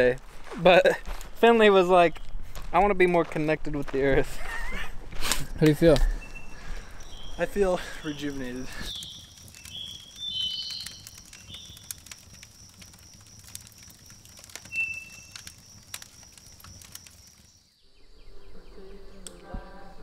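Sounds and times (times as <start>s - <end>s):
campfire crackling and popping: 0.0s - 17.8s.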